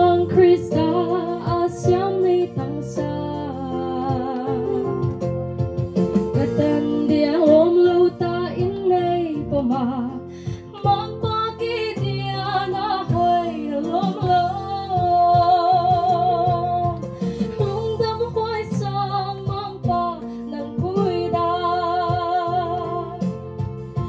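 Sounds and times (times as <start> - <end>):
woman singing into a microphone: 0.0 - 5.2, 6.3 - 24.0
instrumental backing music: 0.0 - 24.0.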